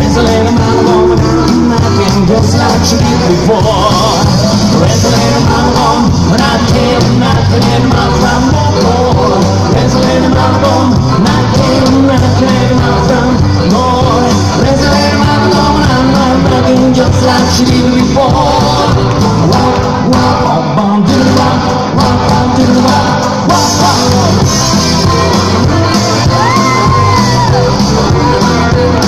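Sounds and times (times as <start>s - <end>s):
bass guitar: 0.0s - 29.0s
drum kit: 0.0s - 29.0s
electric guitar: 0.0s - 29.0s
man singing: 0.0s - 29.0s.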